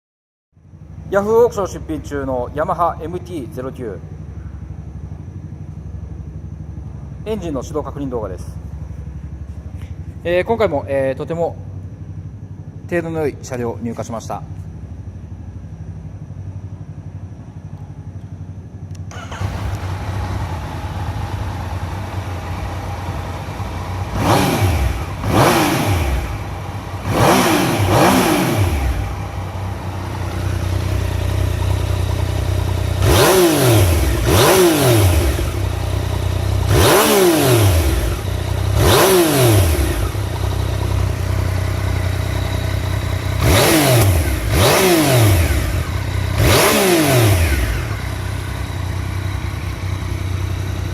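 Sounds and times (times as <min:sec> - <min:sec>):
motorcycle engine revving: 0:00.7 - 0:50.9
motorcycle engine starting: 0:00.7 - 0:50.9.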